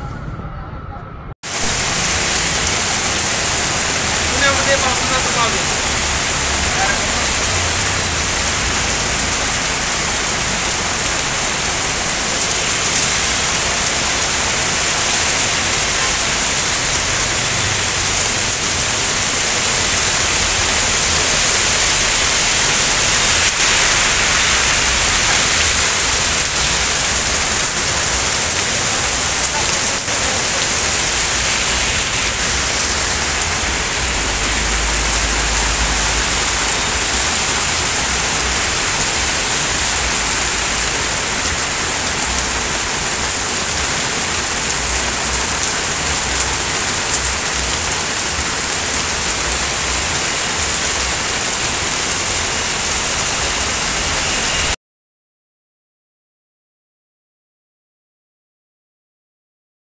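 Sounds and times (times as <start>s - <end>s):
heavy rain on a street: 1.4s - 54.8s.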